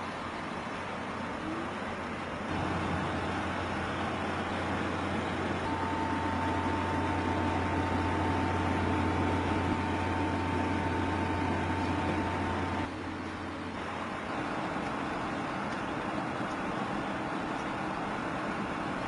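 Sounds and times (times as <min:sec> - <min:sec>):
computer fans whirring: 0:00.0 - 0:19.0
low hum: 0:00.0 - 0:19.0
thin steady whine: 0:00.0 - 0:19.0.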